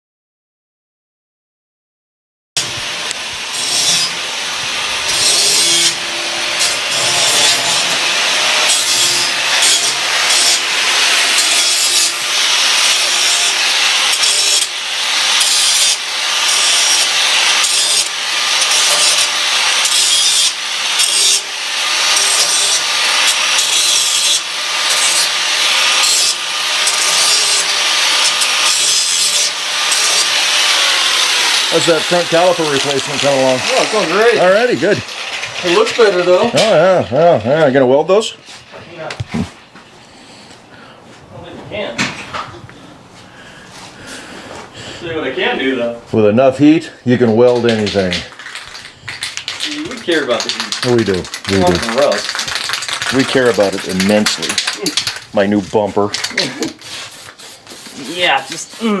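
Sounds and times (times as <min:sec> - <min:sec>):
hand tool scraping strokes: 0:02.6 - 0:40.7, 0:47.2 - 0:59.0.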